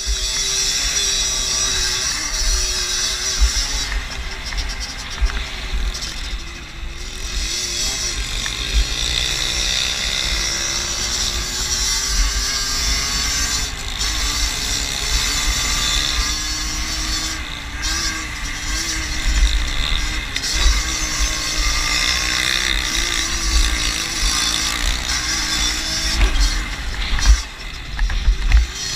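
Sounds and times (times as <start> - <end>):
moped engine running: 0.0 - 28.9.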